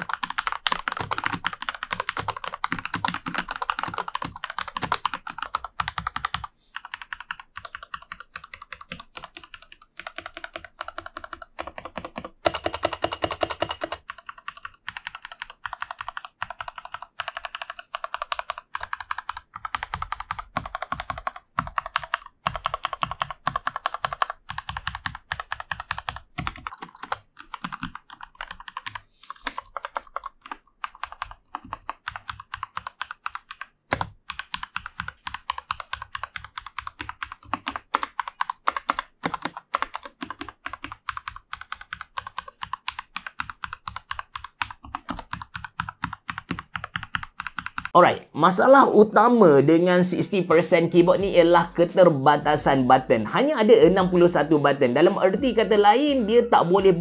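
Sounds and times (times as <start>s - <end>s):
mechanical keyboard typing: 0.0s - 48.0s.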